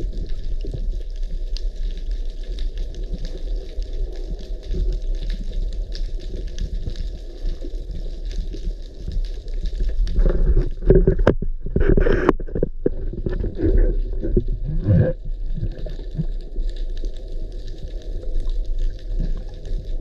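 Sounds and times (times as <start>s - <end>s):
underwater gurgles: 0.0s - 20.0s
underwater rumble of moving water: 0.0s - 20.0s.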